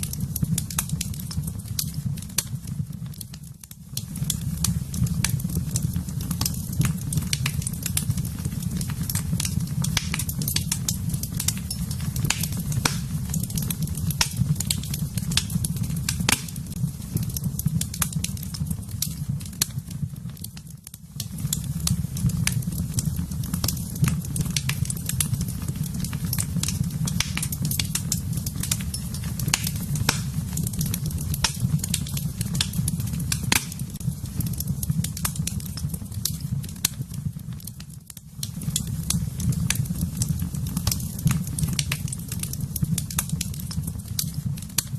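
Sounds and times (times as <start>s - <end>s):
fire crackling in a fireplace: 0.0s - 44.9s.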